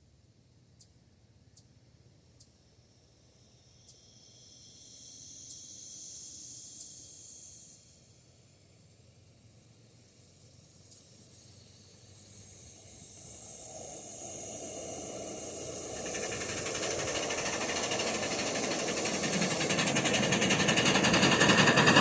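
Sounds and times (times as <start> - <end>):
steam train hissing: 4.1 - 22.0.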